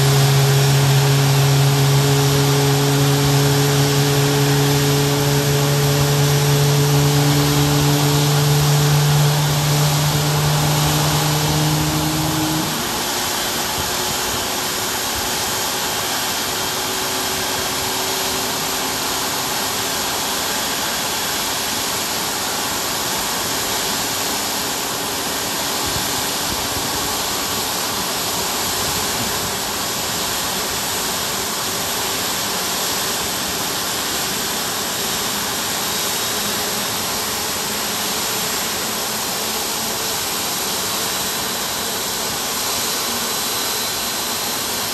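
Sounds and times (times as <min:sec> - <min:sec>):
jet engine rushing air: 0:00.0 - 0:44.9.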